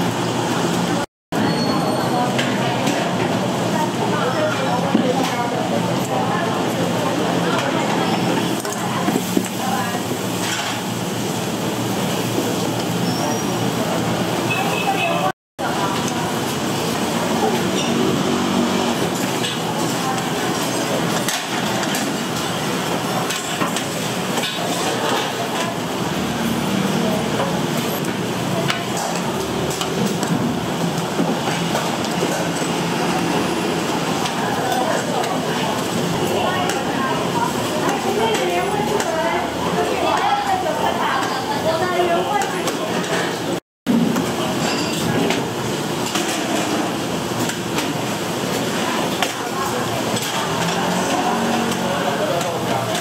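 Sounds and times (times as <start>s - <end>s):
busy kitchen rushing noise: 0.0s - 53.0s
indistinct chatter: 0.0s - 53.0s.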